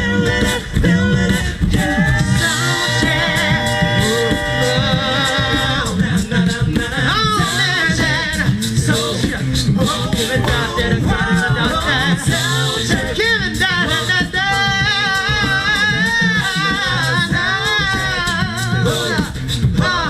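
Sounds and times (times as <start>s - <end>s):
a cappella group singing harmony: 0.0s - 20.0s
beatboxed percussion: 0.0s - 20.0s
sung bass line: 0.0s - 20.0s.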